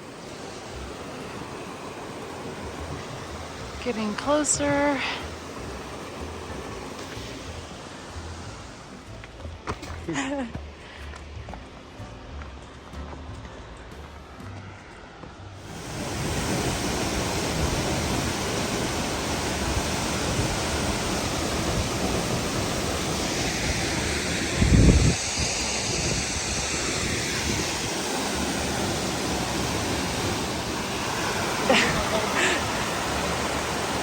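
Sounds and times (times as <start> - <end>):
waterfall roaring: 0.0 - 10.9, 15.6 - 34.0.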